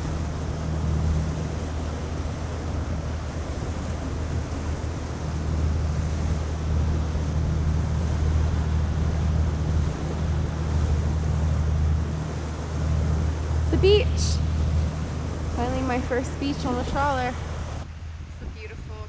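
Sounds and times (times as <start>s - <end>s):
boat engine droning: 0.0s - 17.9s
water noise: 0.0s - 18.7s
wind: 0.0s - 19.0s.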